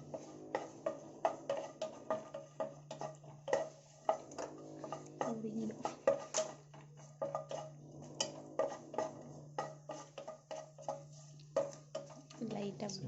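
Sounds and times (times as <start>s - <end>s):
metal utensils clinking on a pan: 0.0s - 13.0s.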